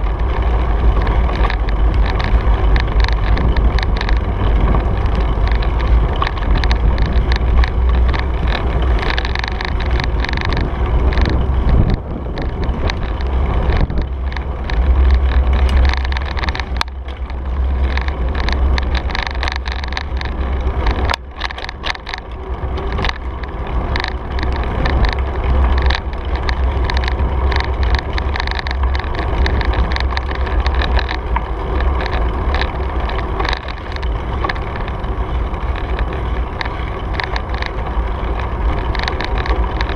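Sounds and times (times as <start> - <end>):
bike clicks and rattles: 0.0 - 39.9
tyre noise on pavement: 0.0 - 39.9
wind buffeting microphone: 0.0 - 39.9.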